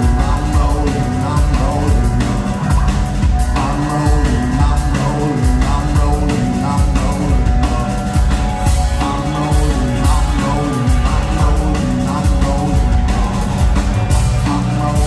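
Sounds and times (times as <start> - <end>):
drum kit beat: 0.0 - 15.0
repeating bass line: 0.0 - 15.0
rock band playing live: 0.0 - 15.0.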